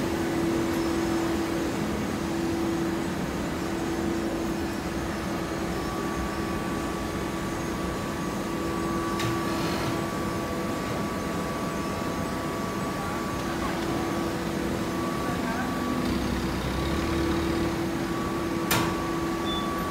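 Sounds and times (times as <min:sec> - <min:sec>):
machine hum: 0:00.0 - 0:19.9.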